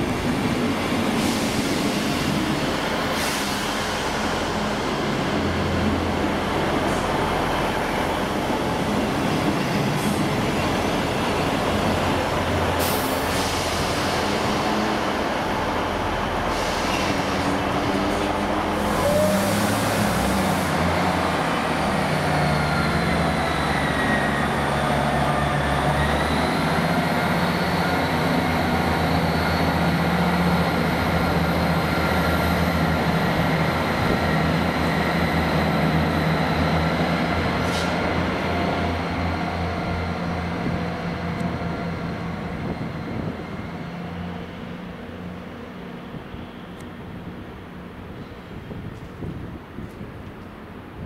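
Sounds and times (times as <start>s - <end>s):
diesel train engines whining: 0.0s - 51.0s.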